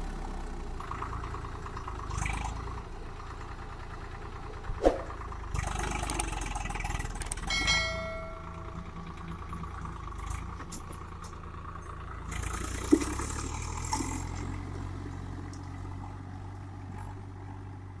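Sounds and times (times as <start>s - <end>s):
tractor diesel engine clattering: 0.0s - 18.0s.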